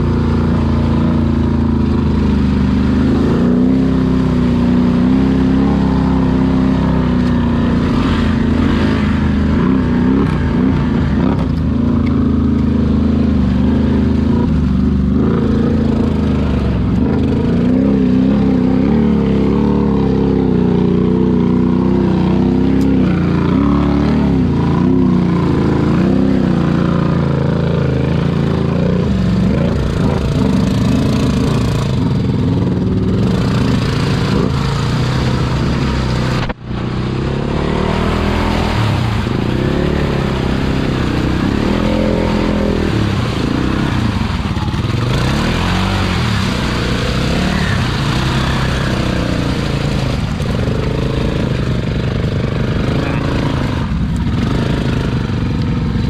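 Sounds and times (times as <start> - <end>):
atv engine running under load: 0.0 - 56.0.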